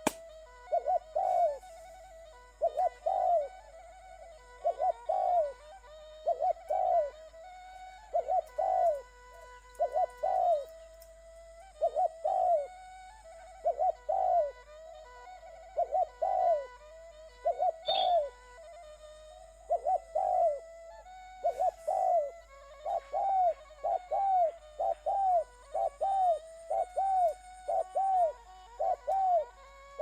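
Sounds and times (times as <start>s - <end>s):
bird cooing: 0.0s - 30.0s
faint steady hum: 0.0s - 30.0s.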